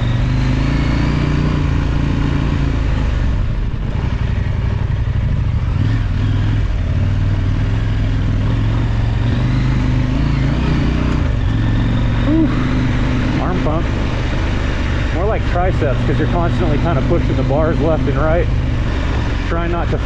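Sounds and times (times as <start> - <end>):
motorcycle engine under load: 0.0 - 20.0.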